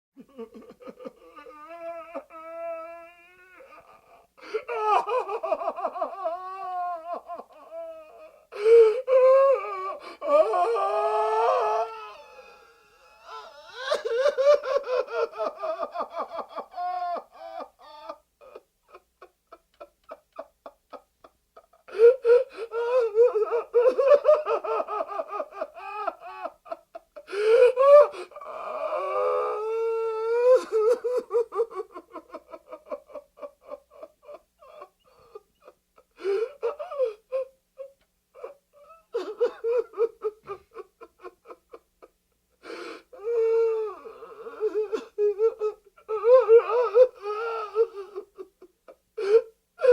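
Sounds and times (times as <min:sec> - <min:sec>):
man crying and sobbing: 0:00.2 - 0:49.9.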